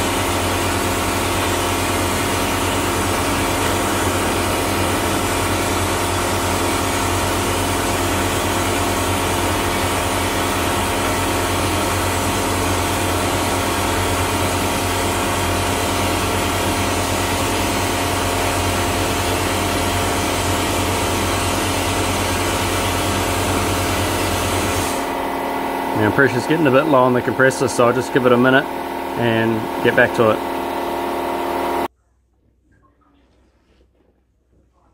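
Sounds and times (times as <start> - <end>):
vapor blasting gun hissing: 0.0 - 31.9
machine hum: 0.0 - 33.7.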